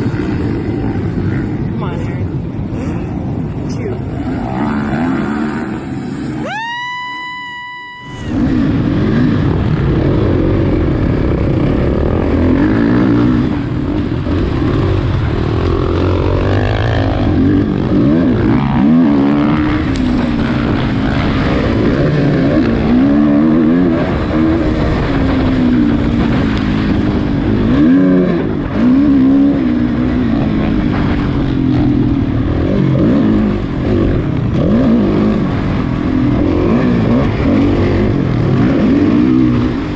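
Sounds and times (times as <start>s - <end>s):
race vehicle engine revving: 4.1s - 39.9s.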